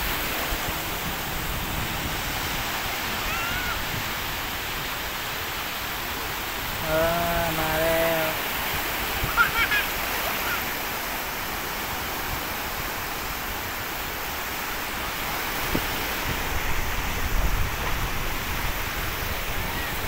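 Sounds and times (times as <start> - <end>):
breaking waves rumbling: 0.0 - 20.0
sea surf washing: 0.0 - 20.0.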